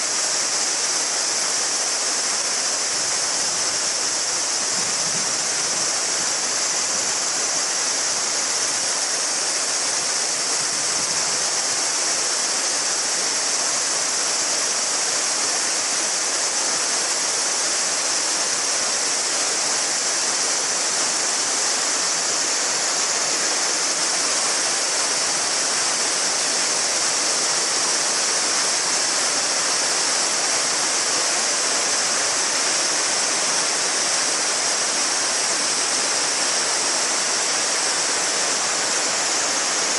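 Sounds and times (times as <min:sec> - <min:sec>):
cicadas chorus: 0:00.0 - 0:39.9
river babbling and rushing: 0:00.0 - 0:39.9.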